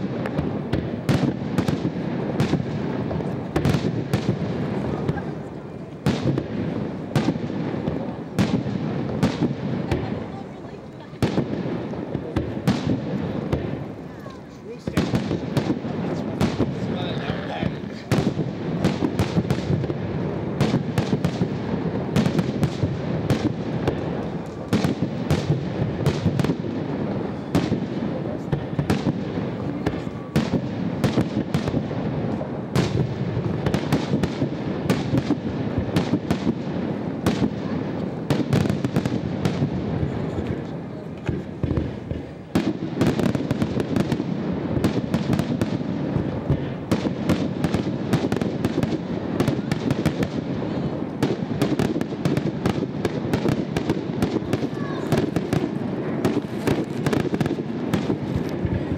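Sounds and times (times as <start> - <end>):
fireworks bursting: 0.0 - 58.9
fireworks crackling: 0.0 - 58.9.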